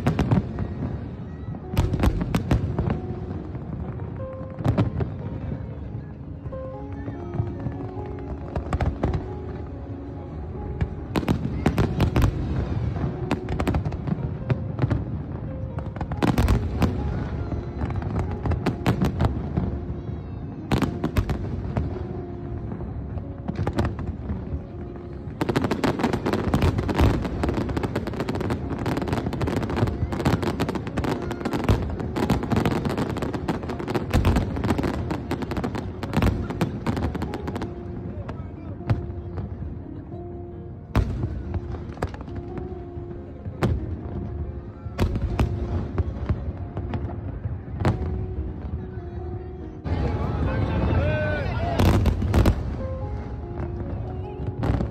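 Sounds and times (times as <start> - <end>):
fireworks crackling: 0.0 - 40.3, 40.9 - 54.9.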